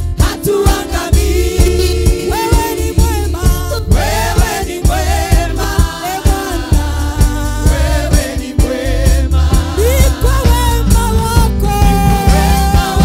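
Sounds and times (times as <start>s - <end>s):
gospel worship music with singing: 0.0s - 13.0s.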